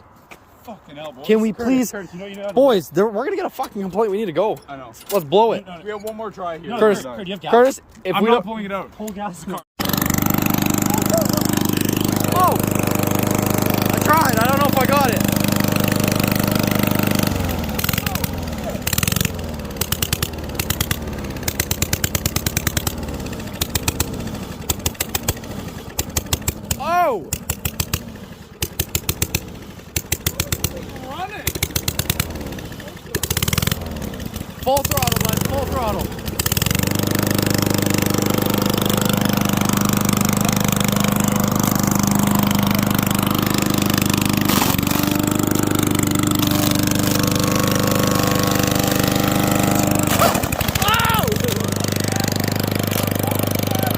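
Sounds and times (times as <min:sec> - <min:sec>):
lawn mower engine popping: 0:09.8 - 0:53.9.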